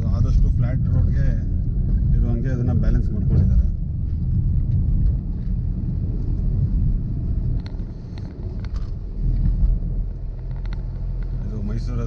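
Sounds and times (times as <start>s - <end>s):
vehicle driving on road: 0.0s - 12.0s.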